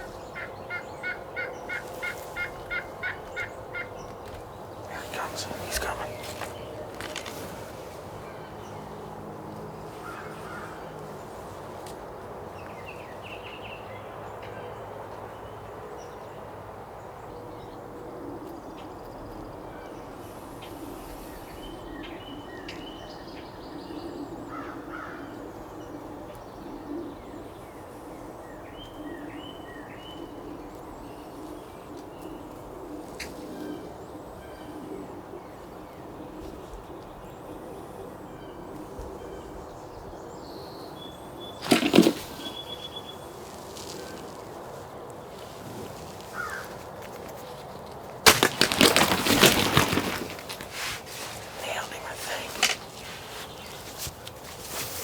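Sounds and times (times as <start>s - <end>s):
small birds chirping: 0.0s - 14.2s, 18.5s - 48.2s, 49.0s - 55.0s.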